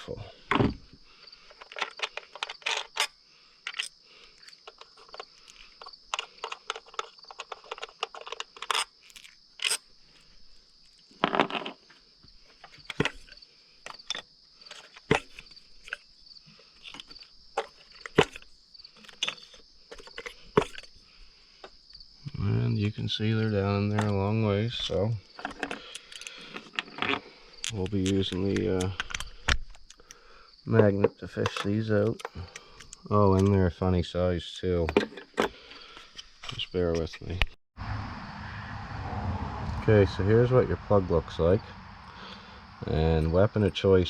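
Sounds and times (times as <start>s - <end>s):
hand tools clinking and scraping: 0.0s - 10.3s, 11.0s - 33.9s, 34.6s - 37.4s
crickets chirring: 0.0s - 44.0s.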